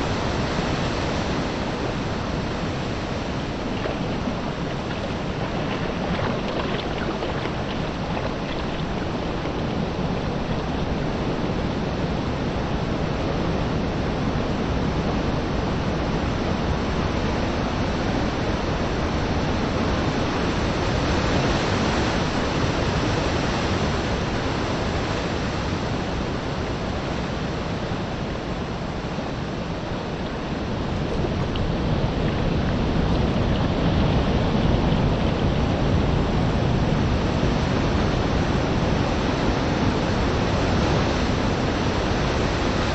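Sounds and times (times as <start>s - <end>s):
small waves washing on shore: 0.0s - 13.2s, 17.9s - 42.9s
wind on microphone: 0.0s - 42.9s.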